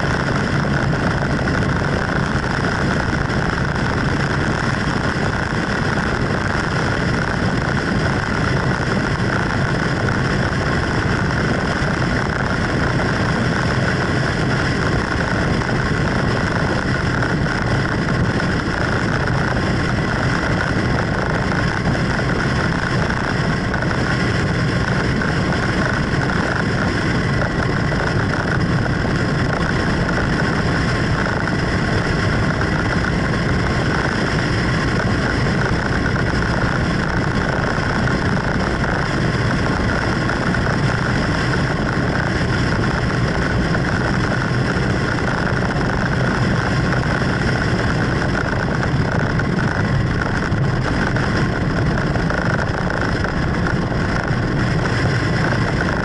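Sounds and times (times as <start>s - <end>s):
engine drone: 0.0s - 56.0s
road and wind noise: 0.0s - 56.0s.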